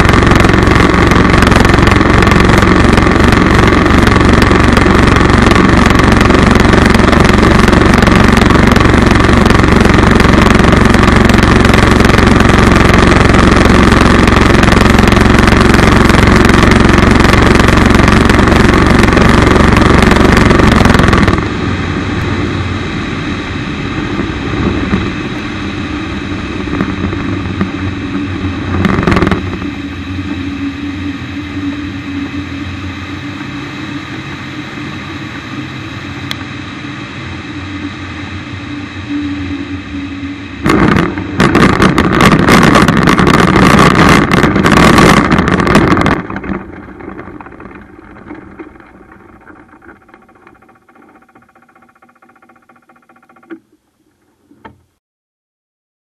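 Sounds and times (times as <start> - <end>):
aircraft engine running: 0.0 - 54.0
wind and airflow noise: 0.0 - 55.0.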